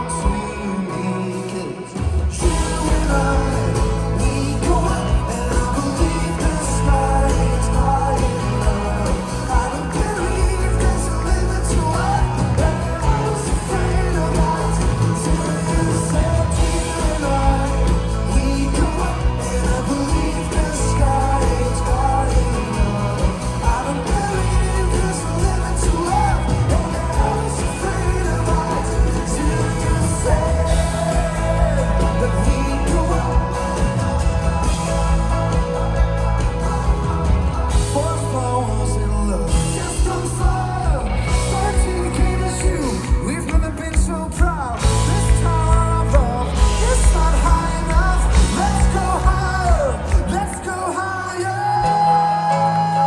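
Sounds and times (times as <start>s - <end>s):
bass line: 0.0s - 53.0s
folk-rock band playing live: 0.0s - 53.0s
person singing: 0.0s - 53.0s.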